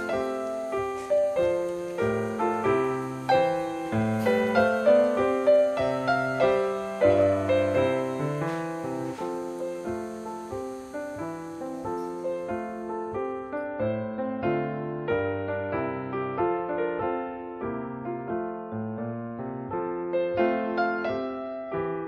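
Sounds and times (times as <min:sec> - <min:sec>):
background piano music: 0:00.0 - 0:22.0.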